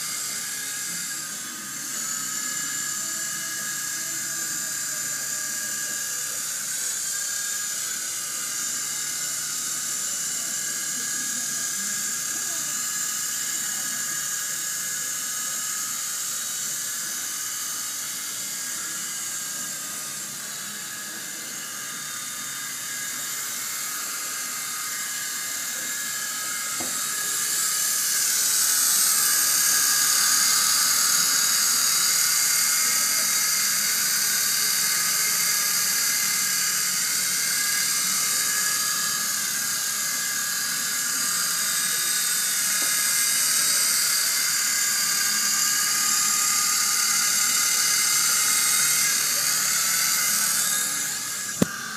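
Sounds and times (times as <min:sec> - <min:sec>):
toy helicopter motors whining: 0:00.0 - 0:51.9.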